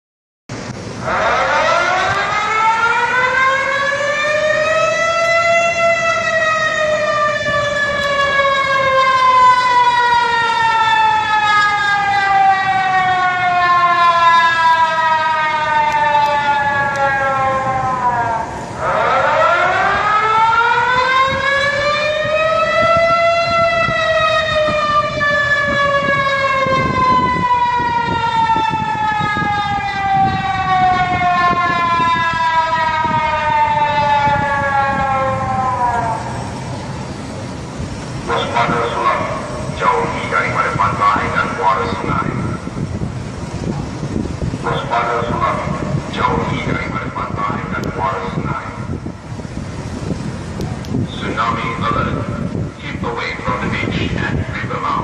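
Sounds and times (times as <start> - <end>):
warning siren wailing: 0.5 - 55.0.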